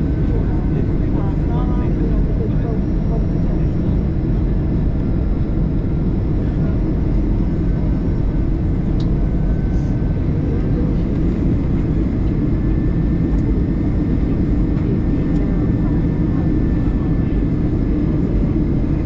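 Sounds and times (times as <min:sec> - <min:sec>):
airplane engines rumbling in cabin: 0:00.0 - 0:19.0.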